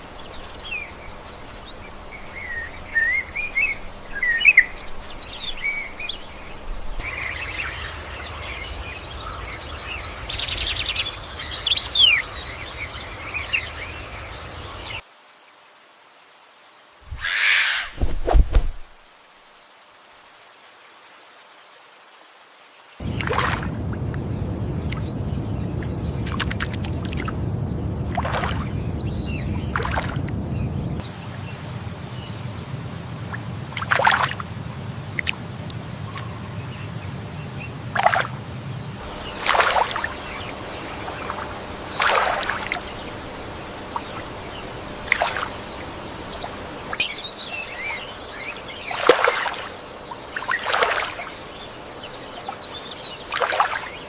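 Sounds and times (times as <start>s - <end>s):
birds calling: 0.0s - 15.0s, 17.0s - 18.4s, 23.0s - 54.0s
low water-like rush: 0.0s - 54.0s.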